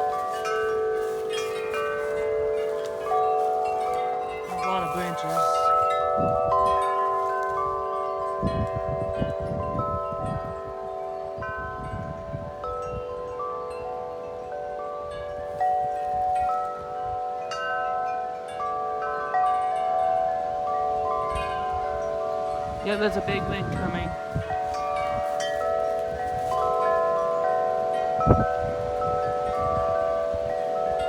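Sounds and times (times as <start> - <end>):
wind buffeting microphone: 0.0 - 31.0
wind chime tubes ringing: 0.0 - 31.0.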